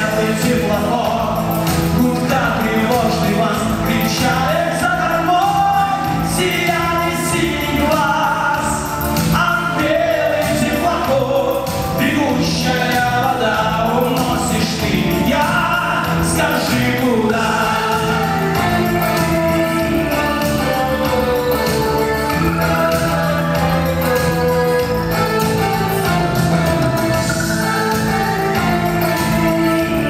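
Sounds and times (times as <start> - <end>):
electric guitar: 0.0 - 30.0
keyboard: 0.0 - 30.0
man singing: 0.0 - 30.0
pop-rock band playing: 0.0 - 30.0.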